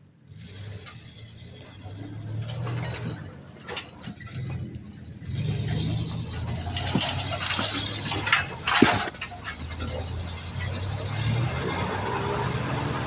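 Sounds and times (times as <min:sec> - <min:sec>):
engine low hum: 0:00.0 - 0:13.0
metallic clanks: 0:00.5 - 0:12.4.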